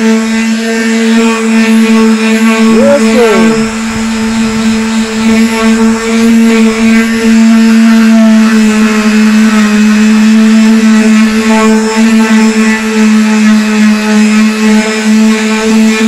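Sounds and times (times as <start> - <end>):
electric sander on metal panel: 0.0 - 16.0.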